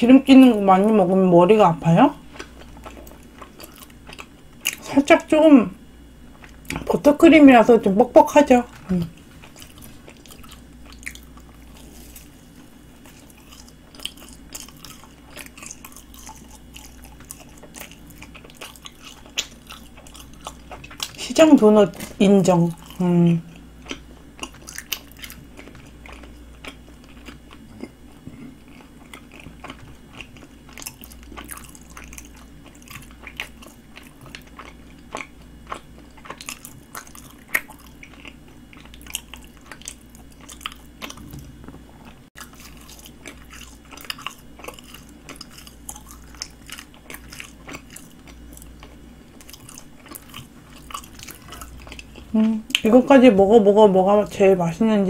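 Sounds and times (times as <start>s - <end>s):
person chewing with wet smacks: 2.2s - 5.0s, 6.3s - 7.0s, 8.7s - 21.2s, 21.9s - 53.0s.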